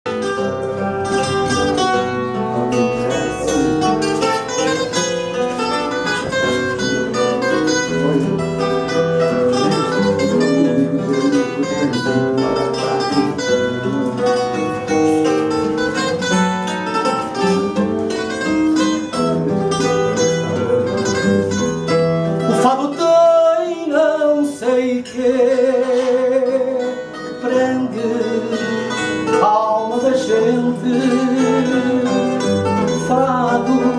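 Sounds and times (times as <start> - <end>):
classical guitar accompaniment: 0.0 - 33.9
guitar melody: 0.0 - 33.9.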